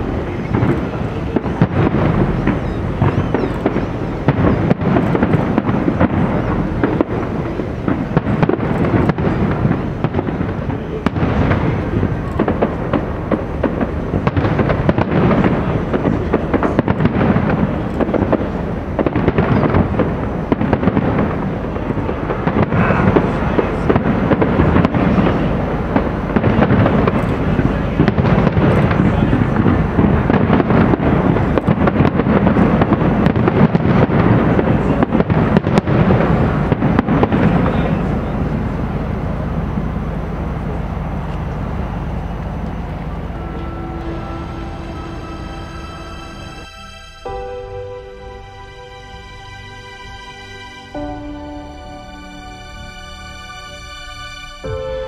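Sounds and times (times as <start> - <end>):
fireworks bangs and crackling: 0.0 - 48.4.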